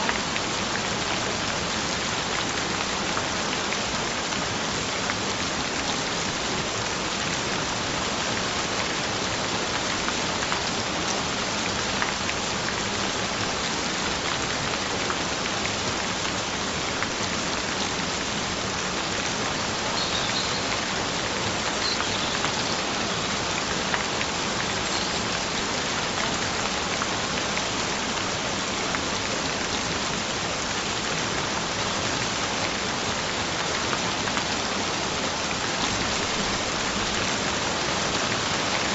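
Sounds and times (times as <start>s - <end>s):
gentle rain hiss: 0.0s - 38.9s.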